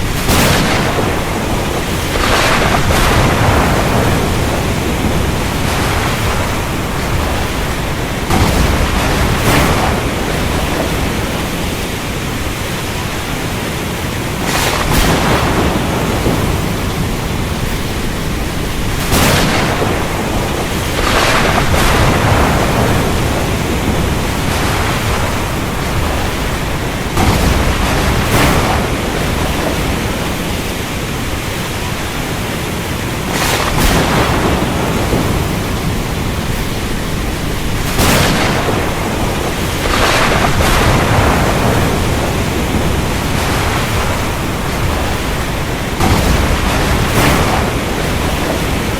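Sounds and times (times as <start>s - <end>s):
heavy rain: 0.0s - 48.9s
thunder cracking and rumbling: 0.0s - 48.9s.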